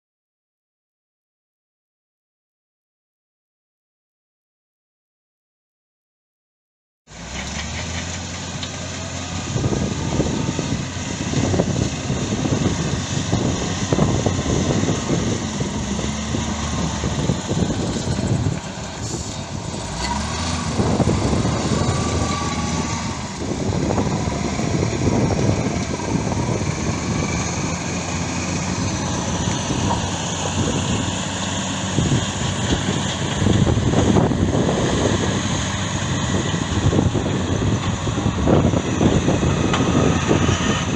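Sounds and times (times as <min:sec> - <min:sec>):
diesel construction machinery running: 0:07.1 - 0:40.9.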